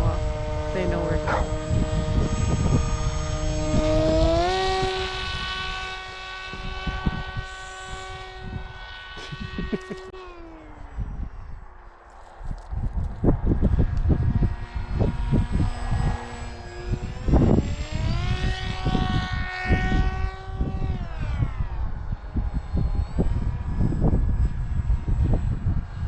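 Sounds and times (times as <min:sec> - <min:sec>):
model plane motor whining: 0:00.0 - 0:26.0
wind buffeting microphone: 0:00.0 - 0:26.0.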